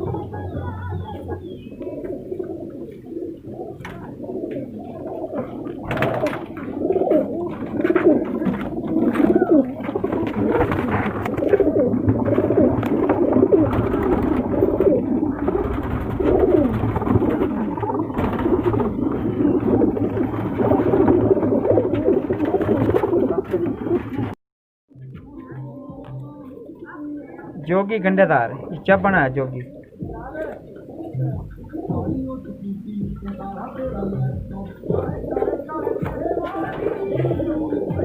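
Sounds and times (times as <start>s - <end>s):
pigeons cooing: 0.0s - 24.4s, 25.3s - 38.0s.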